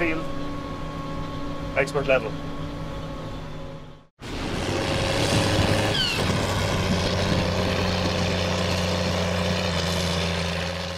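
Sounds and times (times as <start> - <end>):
heavy engine running steadily: 0.0 - 10.9
short falling whine: 0.0 - 10.9.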